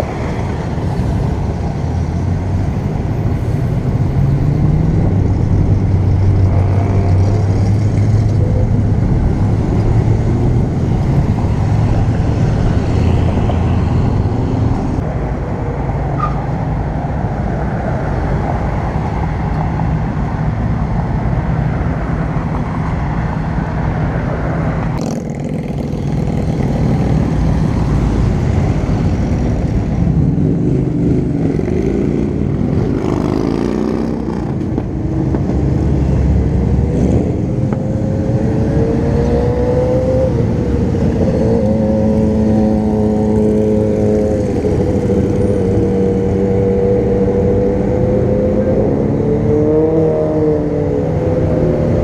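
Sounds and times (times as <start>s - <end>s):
cars and trucks engine rumble: 0.0s - 52.0s.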